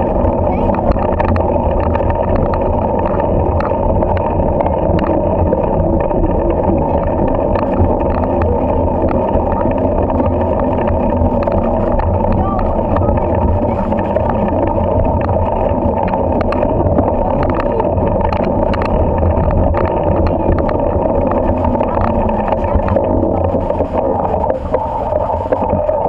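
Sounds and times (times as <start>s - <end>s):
bike riding rumble on microphone: 0.0s - 26.0s
clicks and rattles: 0.0s - 26.0s.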